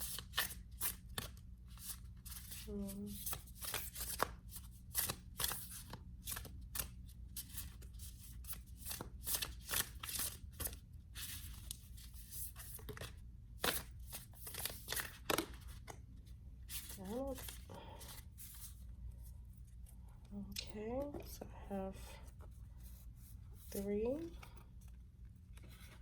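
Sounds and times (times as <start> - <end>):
cards being shuffled: 0.0 - 19.9, 22.4 - 26.0
faint low hum: 0.0 - 26.0.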